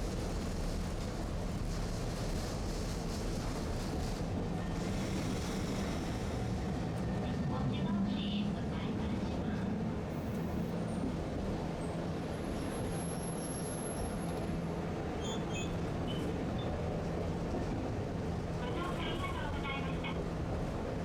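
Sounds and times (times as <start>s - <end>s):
streetcar rumbling on tracks: 0.0s - 21.0s.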